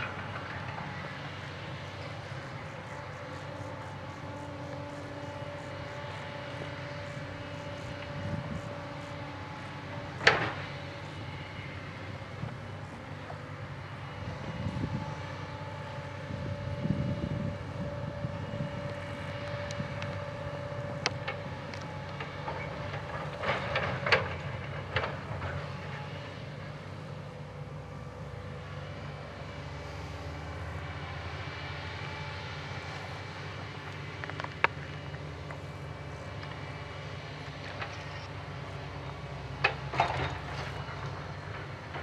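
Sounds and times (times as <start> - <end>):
excavator diesel engine humming: 0.0 - 42.0.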